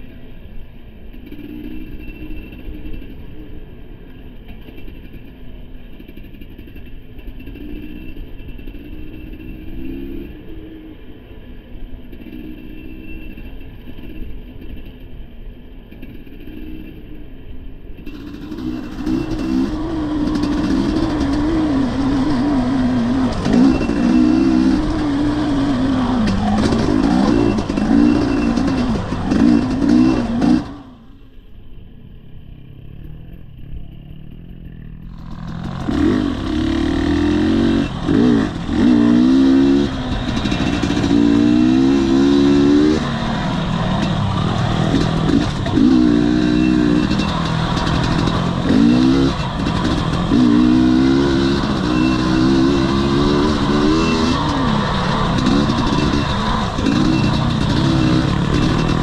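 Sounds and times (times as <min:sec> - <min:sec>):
motorcycle engine revving: 0:01.1 - 0:15.0, 0:18.0 - 0:59.0.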